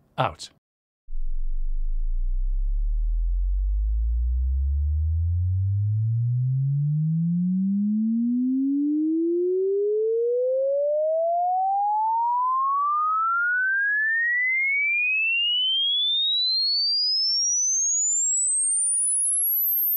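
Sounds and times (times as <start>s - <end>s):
sine tone sweeping upward: 1.1s - 19.9s.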